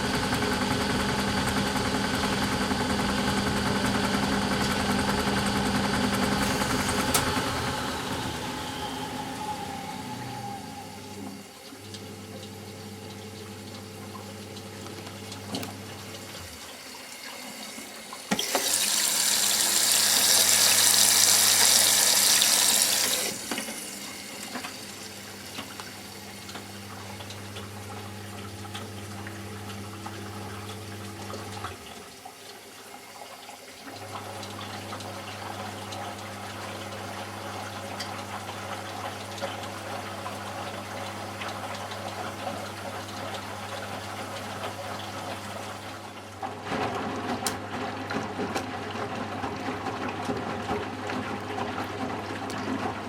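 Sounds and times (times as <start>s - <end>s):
washing machine hum: 0.0s - 53.0s.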